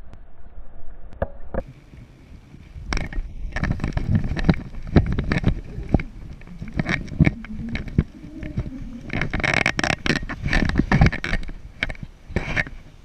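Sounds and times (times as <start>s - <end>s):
wind on microphone: 1.6s - 13.0s.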